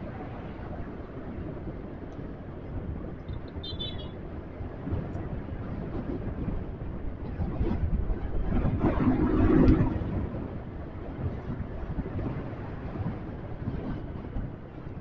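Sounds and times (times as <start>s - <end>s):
motorcycle engine and road noise: 0.0s - 15.0s.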